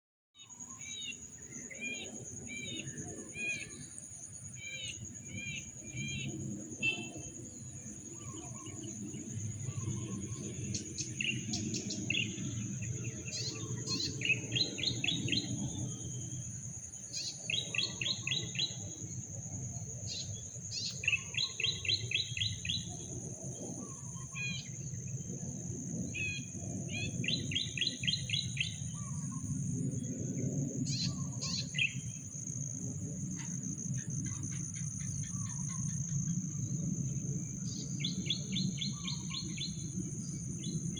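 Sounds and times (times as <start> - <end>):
birds calling with rapid trills: 4.6 - 40.9.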